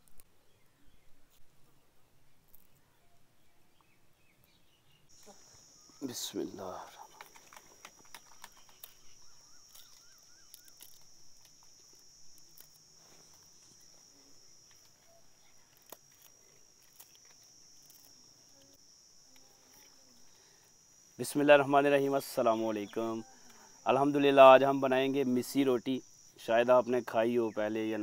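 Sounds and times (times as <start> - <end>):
high-pitched insect chirring: 5.1 - 28.0.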